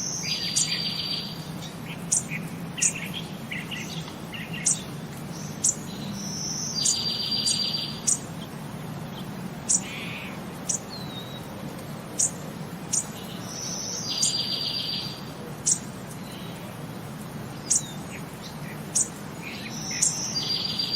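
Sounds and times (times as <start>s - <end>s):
buzzy bird trill: 0.0s - 11.5s, 12.2s - 16.6s, 17.5s - 20.9s
bird chirping: 0.0s - 11.6s, 12.2s - 16.8s, 17.5s - 20.9s.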